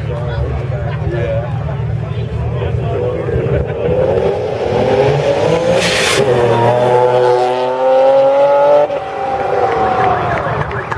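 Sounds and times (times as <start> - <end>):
car engine revving: 0.7 - 10.9.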